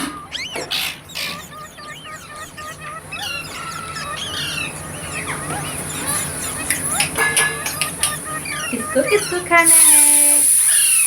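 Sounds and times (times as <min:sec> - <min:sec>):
parrot squawks: 0:00.0 - 0:11.0
parrots chattering: 0:00.0 - 0:11.0.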